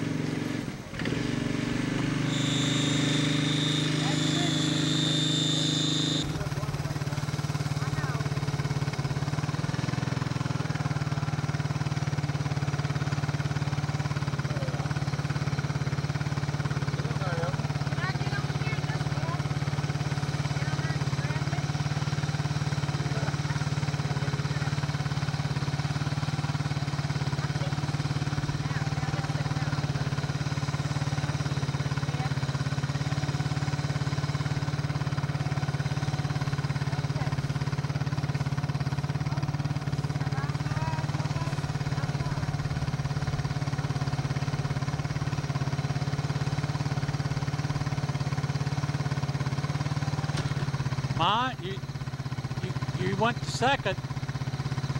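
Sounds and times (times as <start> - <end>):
atv engine idling: 0.0 - 54.9.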